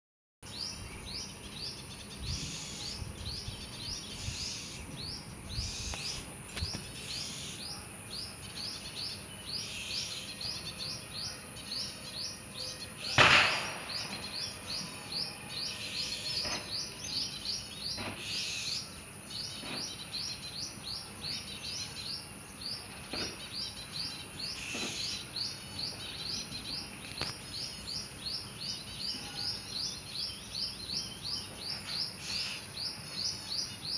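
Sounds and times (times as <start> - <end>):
bird calls: 0.4 - 11.4, 12.6 - 33.8.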